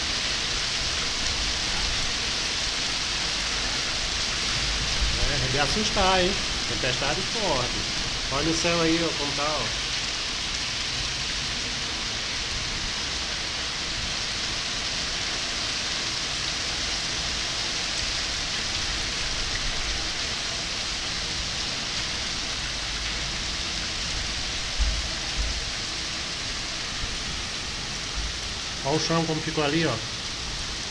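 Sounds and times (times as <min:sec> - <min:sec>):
heavy rain on pavement and cars: 0:00.0 - 0:30.9.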